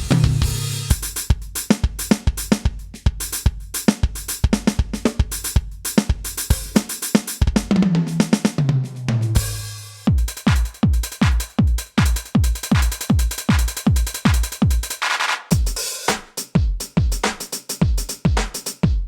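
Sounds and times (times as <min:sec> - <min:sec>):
electronic drum kit beat: 0:00.0 - 0:19.0.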